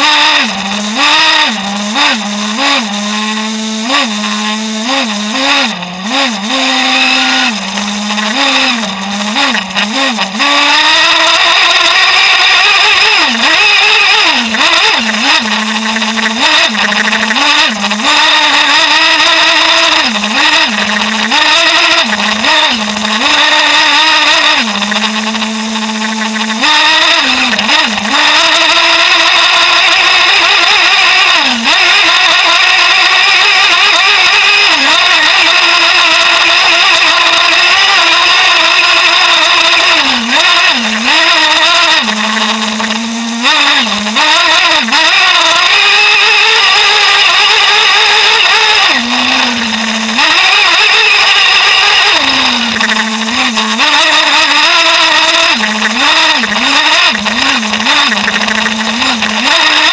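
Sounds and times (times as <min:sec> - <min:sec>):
model truck engine revving: 0:00.0 - 0:59.9.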